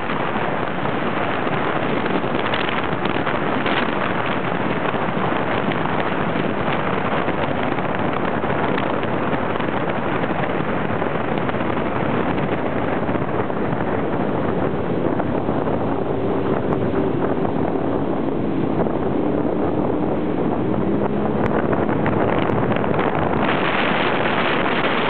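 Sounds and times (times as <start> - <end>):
motorboat engine: 0.0 - 25.0
water rushing: 0.0 - 25.0
wind buffeting microphone: 0.0 - 25.0.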